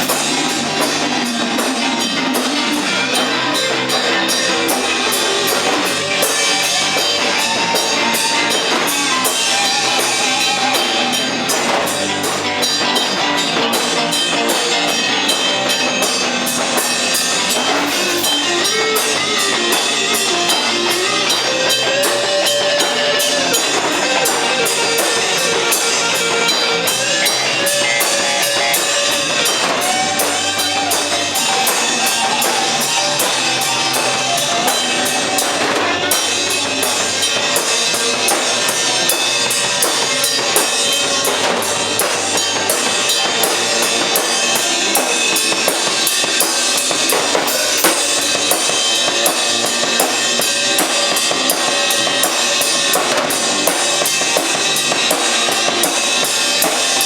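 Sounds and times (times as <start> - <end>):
drum kit beat on cymbals: 0.0 - 57.0
electric lead guitar: 0.0 - 57.0.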